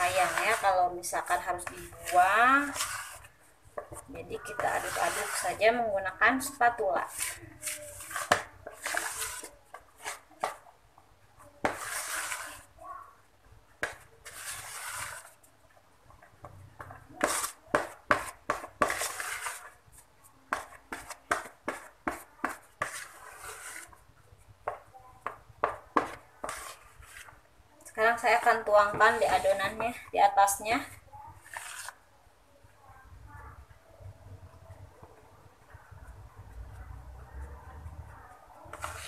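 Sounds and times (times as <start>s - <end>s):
spatula scraping mixing bowl: 0.0s - 10.8s, 11.4s - 12.8s, 13.8s - 32.1s, 34.8s - 39.0s.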